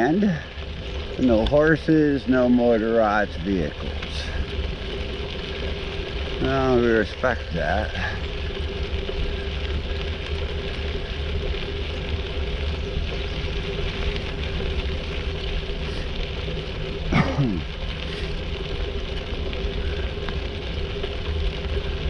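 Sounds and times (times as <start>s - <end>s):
bicycle tyre rumble: 0.0s - 22.0s
faint steady hum: 0.0s - 22.0s.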